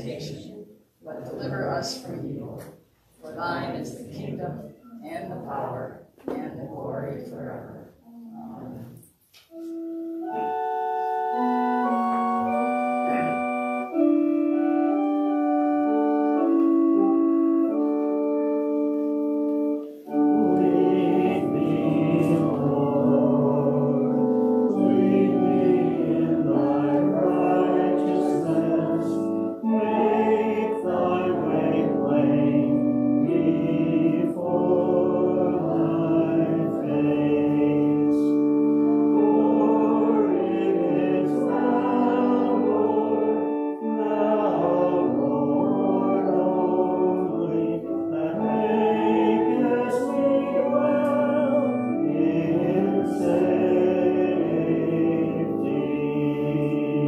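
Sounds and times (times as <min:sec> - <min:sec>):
organ playing slow chords: 0:09.5 - 0:57.0.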